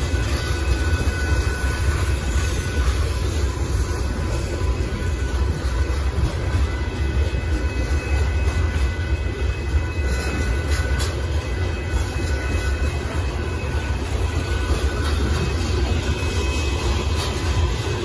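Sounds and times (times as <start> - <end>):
faint high whine: 0.0 - 18.0
train wheels rumbling on rails: 0.0 - 18.0
wheels clicking over rail joints: 0.0 - 18.0.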